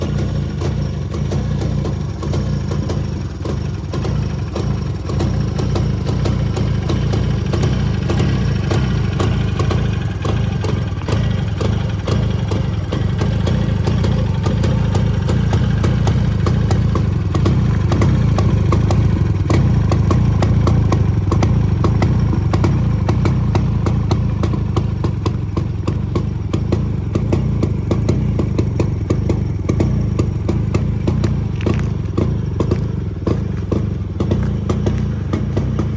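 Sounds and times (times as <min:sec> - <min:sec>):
rapid engine clatter: 0:00.0 - 0:35.9
two-stroke engine idling: 0:00.0 - 0:35.9.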